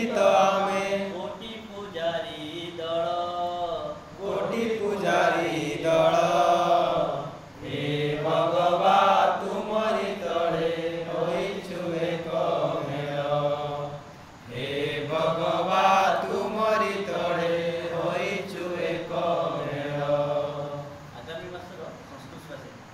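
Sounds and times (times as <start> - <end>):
man singing unaccompanied: 0.0 - 21.3.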